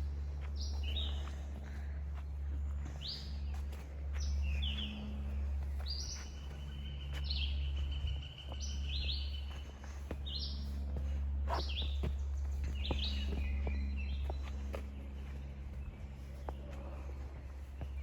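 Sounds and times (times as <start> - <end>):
songbirds chirping: 0.0 - 18.0
steady low rumble: 0.0 - 18.0.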